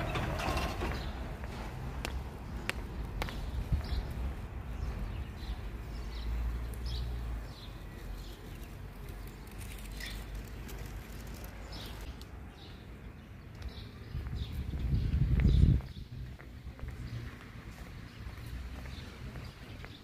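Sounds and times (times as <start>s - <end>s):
small birds chirping: 0.9s - 20.0s.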